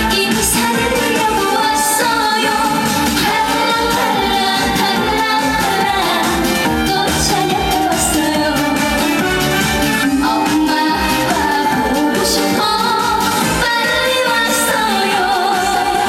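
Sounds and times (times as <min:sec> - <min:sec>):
woman singing over backing track: 0:00.0 - 0:16.0.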